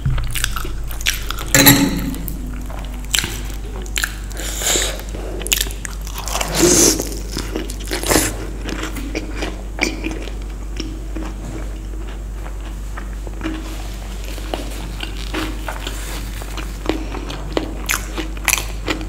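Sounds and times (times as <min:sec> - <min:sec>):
person chewing crunchy food: 0:00.0 - 0:01.6, 0:02.2 - 0:19.0.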